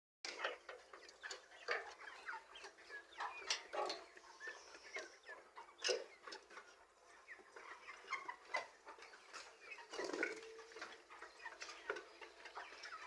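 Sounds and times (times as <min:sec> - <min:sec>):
chickens clucking: 0:00.3 - 0:13.0.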